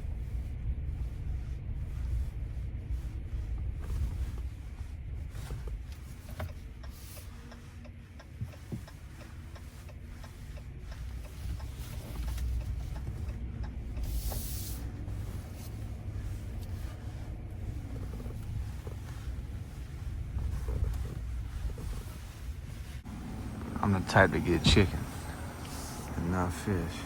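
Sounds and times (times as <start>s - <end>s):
pickup truck rumble inside cab: 0.0s - 27.0s.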